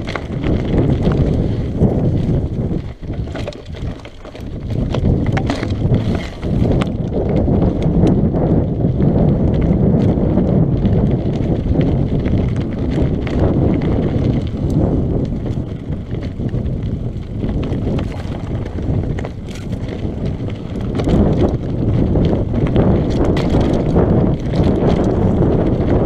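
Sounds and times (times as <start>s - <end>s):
tyres over dirt and stones: 0.0s - 10.2s, 10.8s - 26.0s
bike clicks and rattles: 0.0s - 26.0s
wind on microphone: 0.0s - 26.0s.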